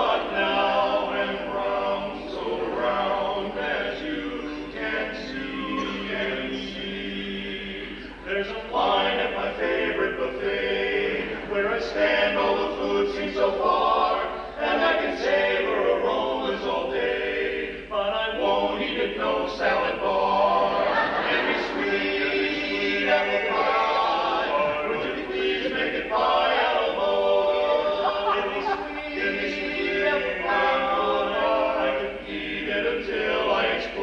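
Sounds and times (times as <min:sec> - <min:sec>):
men singing a cappella harmony: 0:00.0 - 0:34.0.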